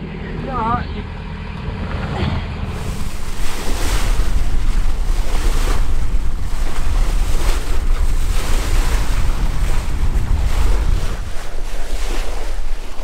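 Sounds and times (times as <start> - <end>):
wind buffeting microphone: 1.6 - 13.0
bow wave splashing along hull: 2.0 - 13.0.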